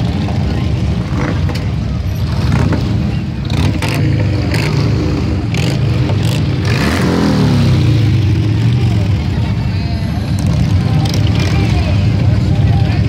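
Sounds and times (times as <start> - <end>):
motorcycle engine revving: 0.0 - 13.0
motorcycle engines rumbling: 0.0 - 13.0.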